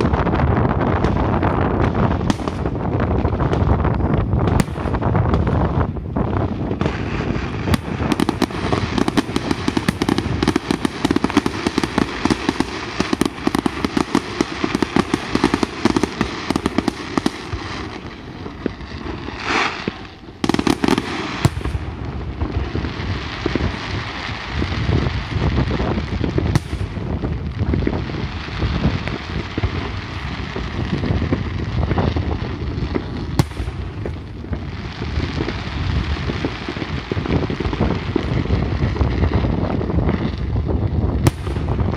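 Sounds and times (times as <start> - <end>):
fireworks banging: 0.0 - 41.9
fireworks crackling: 0.0 - 41.9.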